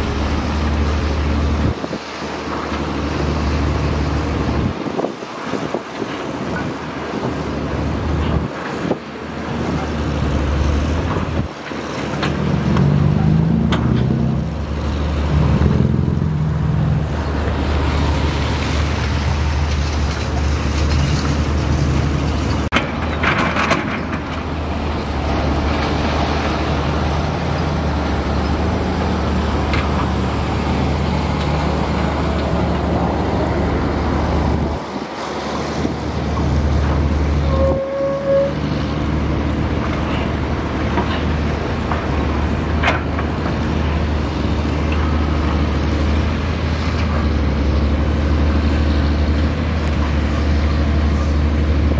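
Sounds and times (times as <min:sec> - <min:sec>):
excavator diesel engine humming: 0:00.0 - 0:51.9.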